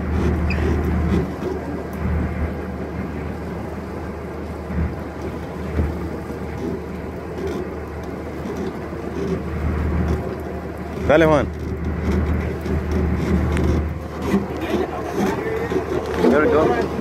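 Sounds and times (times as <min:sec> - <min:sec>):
steady low rumbling noise: 0:00.0 - 0:17.0.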